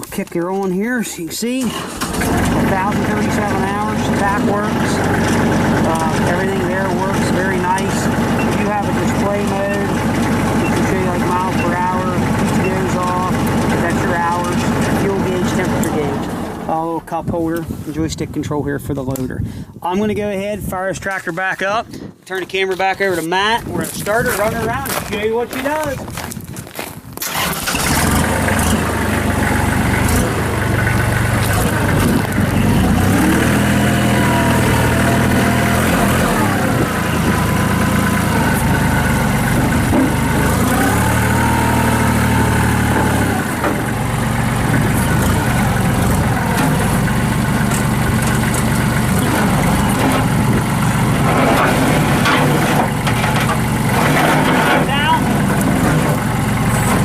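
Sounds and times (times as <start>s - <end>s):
tractor diesel engine running: 0.0s - 18.3s, 27.1s - 57.0s.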